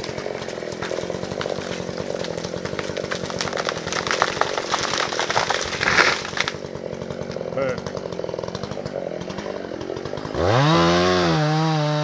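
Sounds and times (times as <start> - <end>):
chainsaw idling: 0.0 - 12.0.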